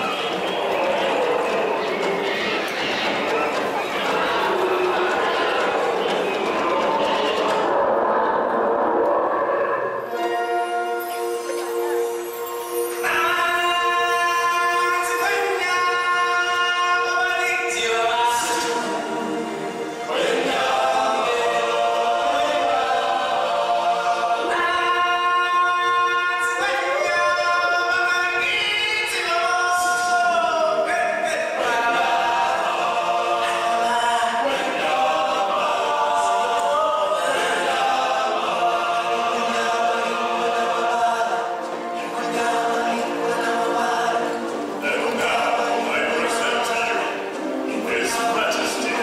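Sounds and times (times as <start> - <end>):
choir singing in harmony: 0.0 - 49.0.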